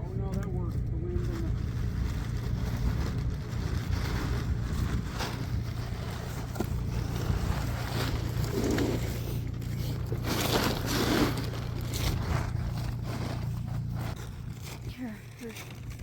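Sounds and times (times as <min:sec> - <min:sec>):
wind rumbling on microphone: 0:00.0 - 0:16.0
plastic tarp flapping: 0:01.0 - 0:16.0.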